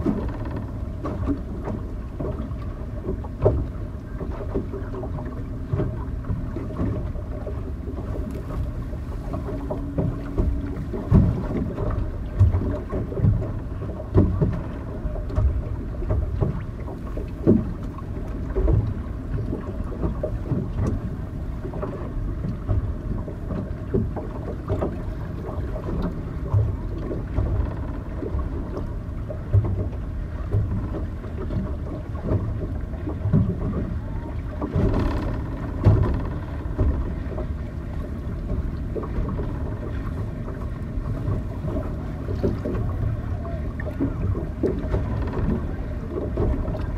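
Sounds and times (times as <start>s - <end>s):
faint steady hum: 0.0s - 46.9s
wind buffeting microphone: 0.0s - 46.9s.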